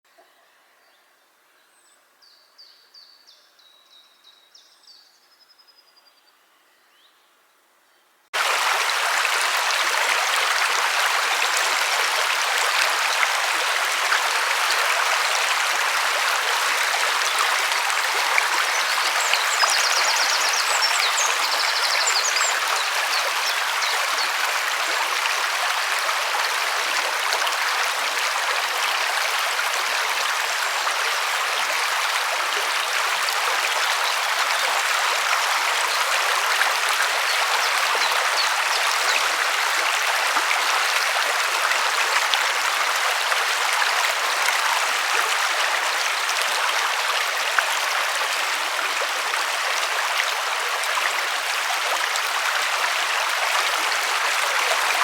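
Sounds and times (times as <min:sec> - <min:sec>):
river water flowing: 0:08.4 - 0:55.0.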